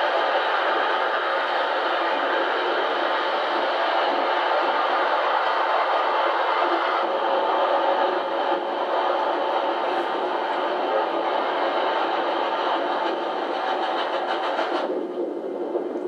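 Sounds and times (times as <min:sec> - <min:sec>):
second train passing alongside: 0:00.0 - 0:16.0
train running at speed: 0:00.0 - 0:16.0.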